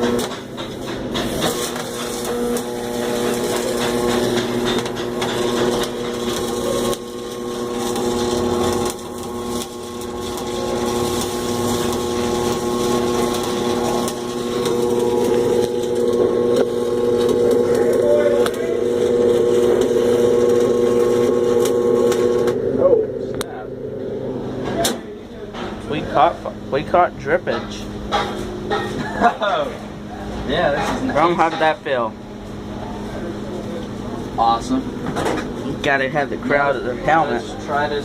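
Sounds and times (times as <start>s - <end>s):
welding arc crackling: 0.0s - 38.0s
welding machine hum: 0.0s - 38.0s.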